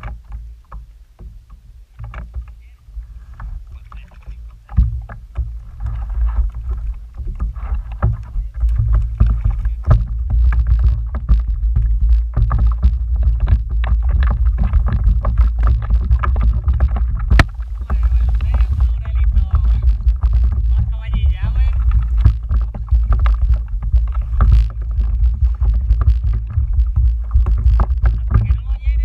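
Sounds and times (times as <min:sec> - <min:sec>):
knocks and taps on kayak: 0:00.0 - 0:02.7, 0:03.3 - 0:29.0
steady low rumble: 0:00.0 - 0:29.0.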